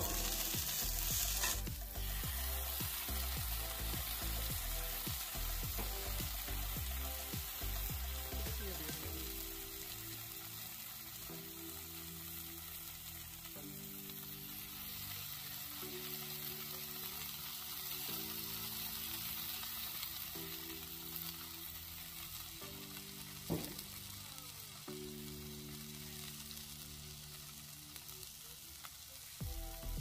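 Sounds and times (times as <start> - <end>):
food sizzling on a griddle: 0.0 - 30.0
soft background music chords: 0.0 - 30.0.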